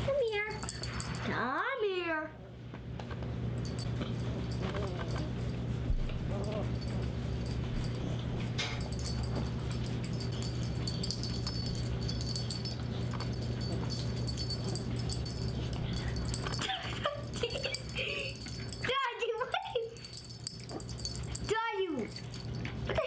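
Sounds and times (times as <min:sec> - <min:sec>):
low hum: 0:02.4 - 0:23.0.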